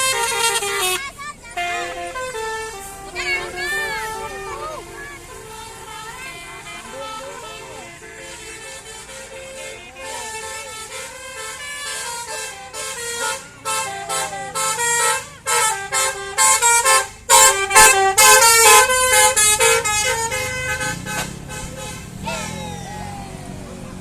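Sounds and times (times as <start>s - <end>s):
engine hum: 0.0s - 24.0s
multi-tone bus horn tune: 0.0s - 24.0s.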